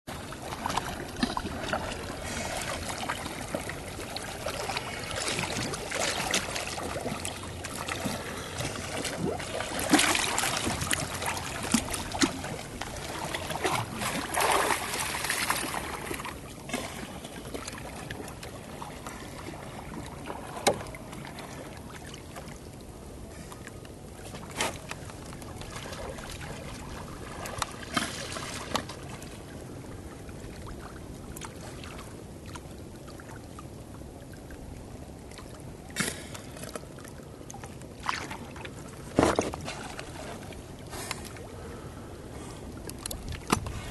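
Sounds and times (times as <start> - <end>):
sea water sloshing and splashing: 0.1 - 43.9.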